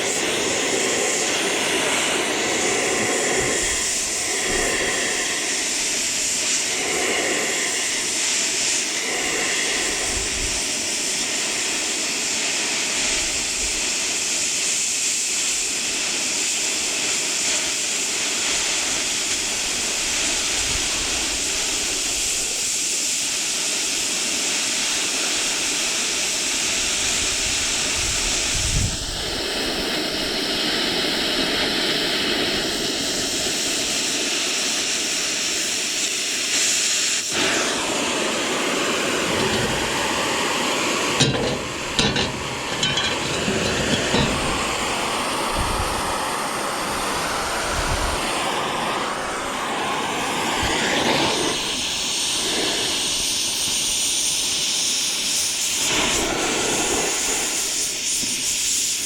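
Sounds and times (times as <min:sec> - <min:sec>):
welding arc crackling and hissing: 0:00.0 - 0:59.0.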